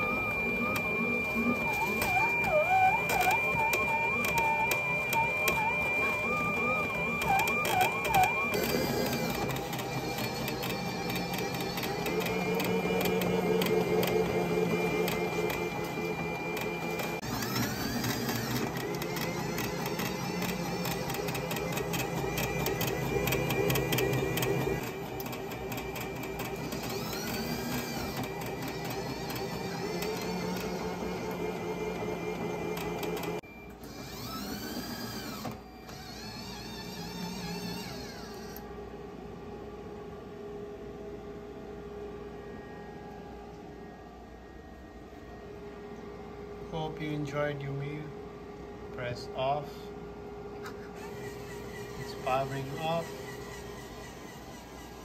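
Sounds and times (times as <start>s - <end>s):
roti maker motors whirring: 0.0s - 55.0s.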